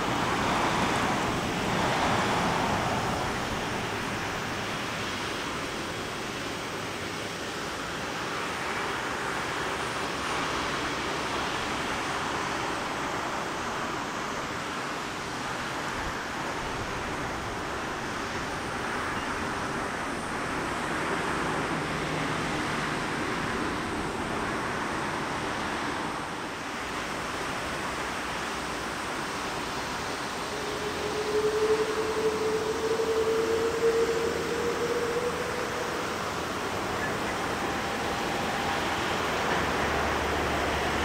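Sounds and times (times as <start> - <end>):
jet engines taxiing: 0.0 - 41.0.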